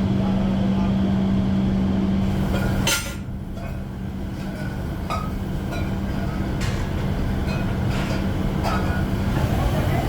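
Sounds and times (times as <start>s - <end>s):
workshop machinery humming: 0.0s - 10.0s.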